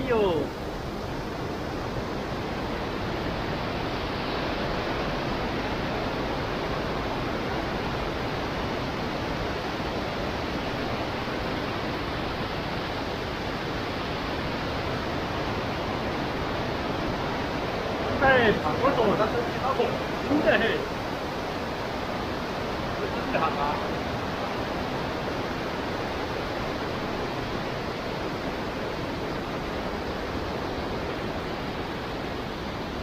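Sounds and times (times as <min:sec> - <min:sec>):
water rushing over weir: 0:00.0 - 0:33.0.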